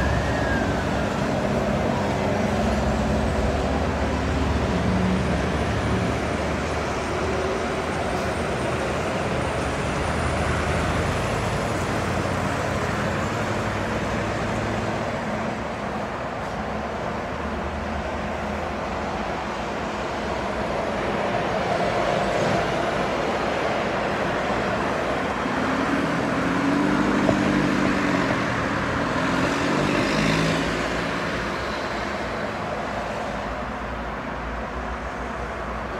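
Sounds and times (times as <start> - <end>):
bus engine passing: 0.0 - 35.9
road traffic: 0.0 - 35.9.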